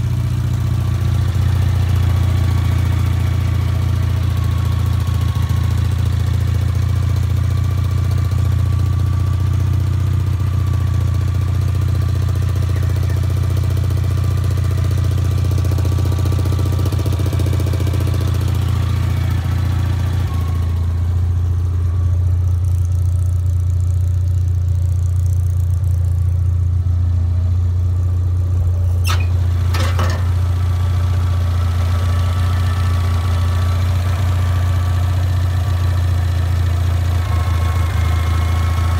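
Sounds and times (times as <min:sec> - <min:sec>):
engine idling hum: 0:00.0 - 0:38.9.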